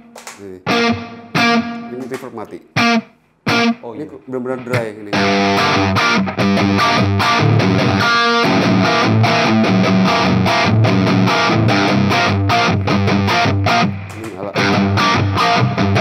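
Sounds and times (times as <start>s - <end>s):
overdriven electric guitar chords: 0.1s - 2.1s, 2.8s - 3.8s, 5.1s - 16.0s.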